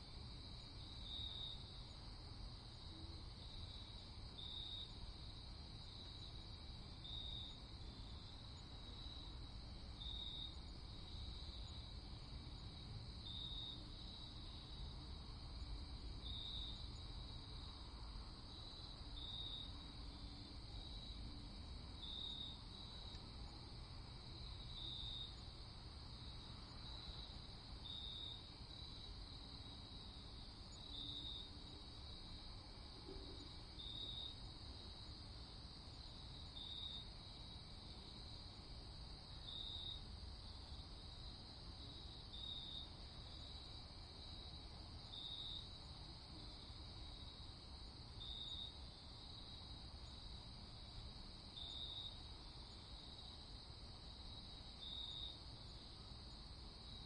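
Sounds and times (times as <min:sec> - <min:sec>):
crickets chirping: 0:00.0 - 0:57.0
low steady hiss: 0:00.0 - 0:57.0.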